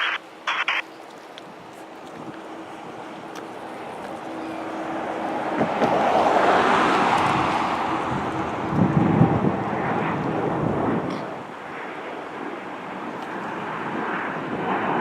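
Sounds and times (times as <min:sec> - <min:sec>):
jet airliner engines passing: 0:00.0 - 0:15.0.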